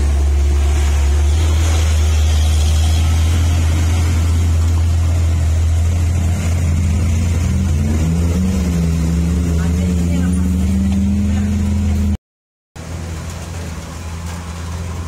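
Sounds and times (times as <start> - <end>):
truck diesel engine droning: 0.0 - 12.2.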